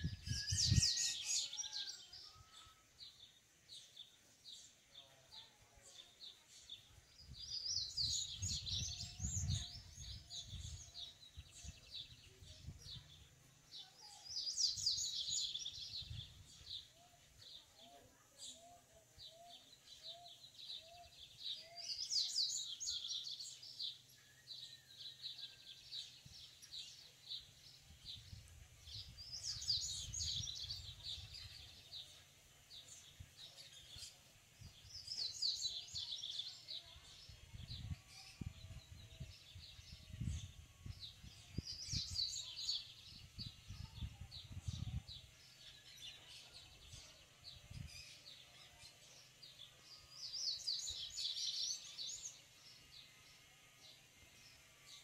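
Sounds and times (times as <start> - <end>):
bird singing high song phrases: 0.0 - 55.0.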